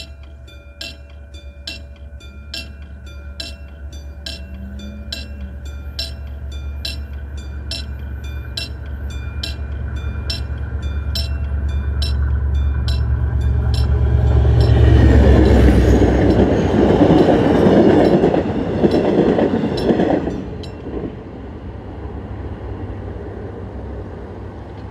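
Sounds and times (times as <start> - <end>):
level-crossing warning bell: 0.0 - 21.1
diesel locomotive droning: 0.0 - 24.9
train wheels rushing on rails: 0.0 - 24.9.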